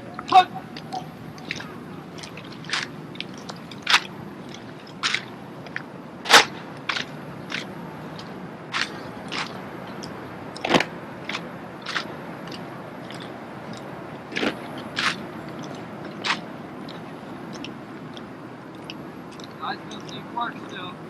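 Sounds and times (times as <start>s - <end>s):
background noise: 0.0s - 21.0s.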